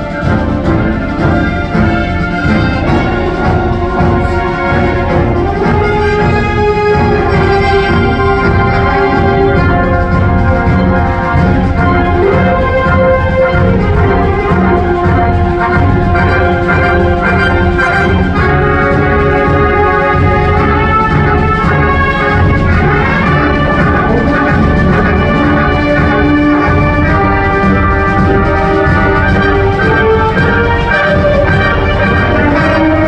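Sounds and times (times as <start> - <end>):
concert band playing: 0.0 - 33.0
trumpets and trombone: 0.0 - 33.0.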